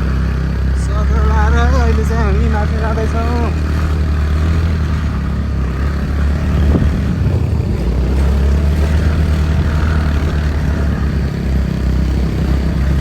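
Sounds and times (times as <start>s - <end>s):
motor scooter engine running: 0.0s - 13.0s.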